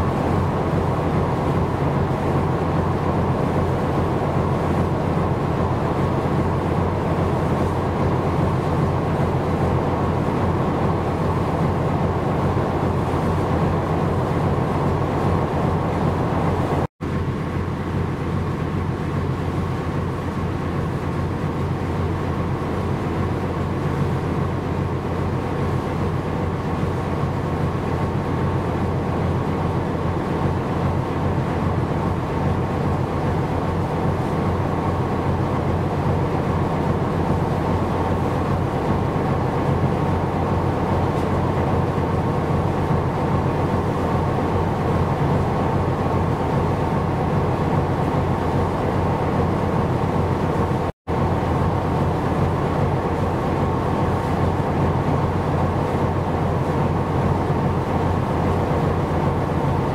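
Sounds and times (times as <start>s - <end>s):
rushing water: 0.0s - 59.9s
ship engine drone: 0.0s - 59.9s.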